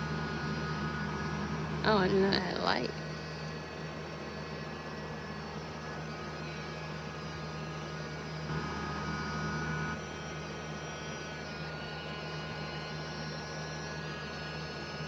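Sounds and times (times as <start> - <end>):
rotary tool motor whine: 0.0 - 15.0.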